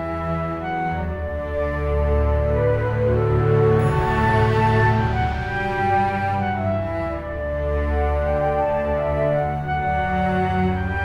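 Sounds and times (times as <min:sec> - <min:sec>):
slow cinematic music: 0:00.6 - 0:11.0.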